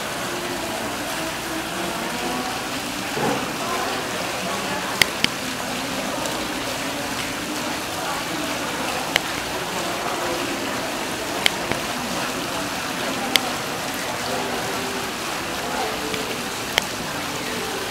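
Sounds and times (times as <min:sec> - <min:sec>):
fountain water pouring: 0:00.0 - 0:17.9.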